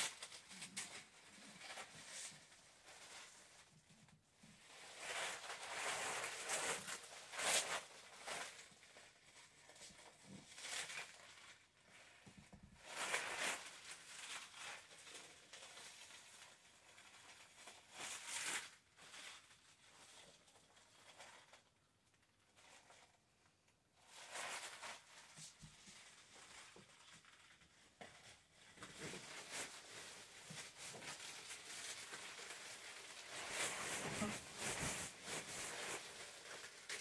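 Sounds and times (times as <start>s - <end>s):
plastic dress rustling and crinkling: 0.0s - 37.0s.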